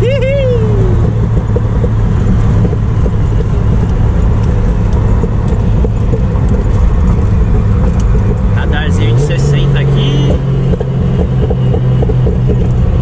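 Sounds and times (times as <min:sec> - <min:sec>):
car engine droning: 0:00.0 - 0:13.0
road and wind noise: 0:00.0 - 0:13.0.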